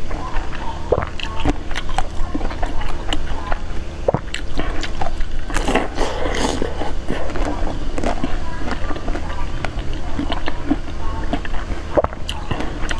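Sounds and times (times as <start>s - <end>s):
biting and chewing crunches: 0.0s - 12.9s.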